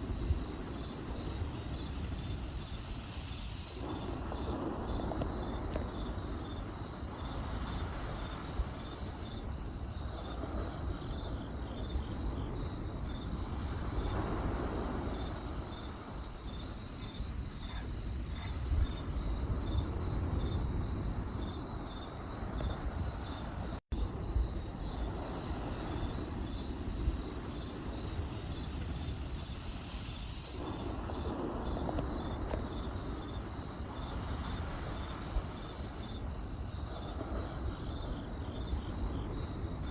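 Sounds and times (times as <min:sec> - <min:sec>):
campfire rushing and crackling: 0:00.0 - 0:39.9
crickets chirping: 0:00.0 - 0:39.9.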